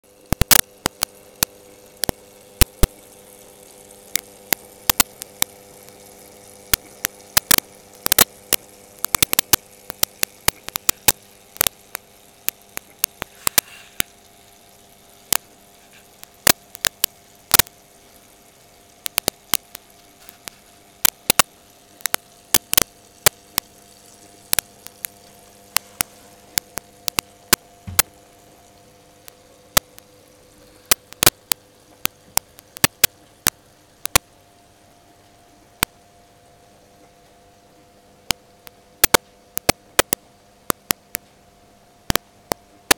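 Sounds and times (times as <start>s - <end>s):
electrical hum: 0.0s - 42.9s
sharp clicks and crackles: 0.1s - 34.4s, 35.2s - 36.0s, 38.2s - 41.4s, 42.0s - 42.9s.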